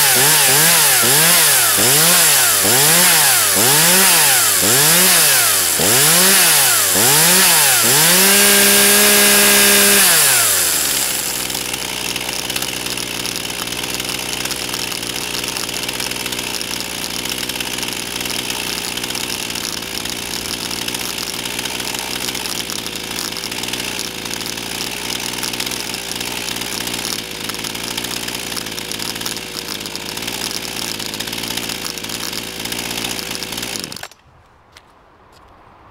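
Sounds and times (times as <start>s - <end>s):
chainsaw revving and idling: 0.0s - 34.2s.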